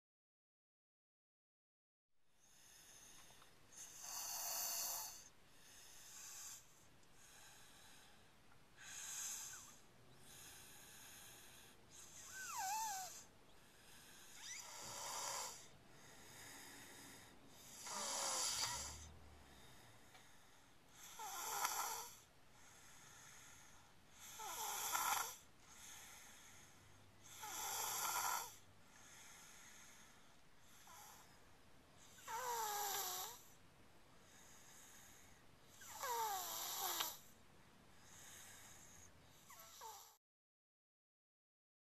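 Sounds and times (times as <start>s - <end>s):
child snoring: 2.4s - 31.4s, 32.0s - 33.6s, 34.4s - 37.3s, 38.0s - 40.2s.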